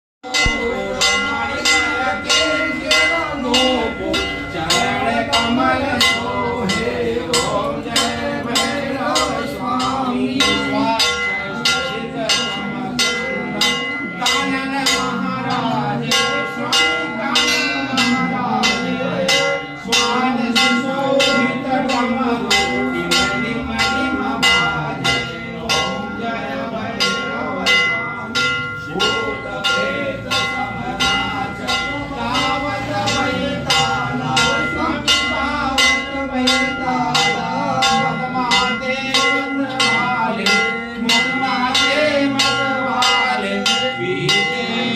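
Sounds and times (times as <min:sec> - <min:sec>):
temple bell ringing: 0:00.2 - 0:44.9
voices: 0:00.2 - 0:44.9.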